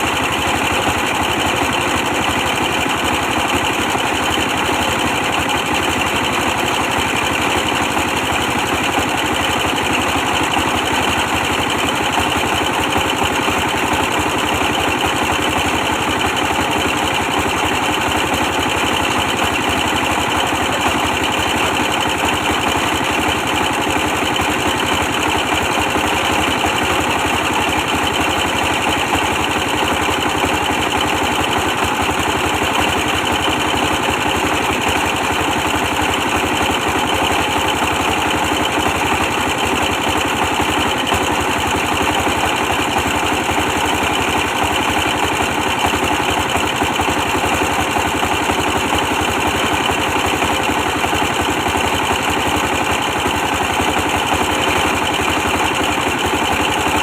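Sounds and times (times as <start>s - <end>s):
stationary diesel engine running: 0.0s - 57.0s.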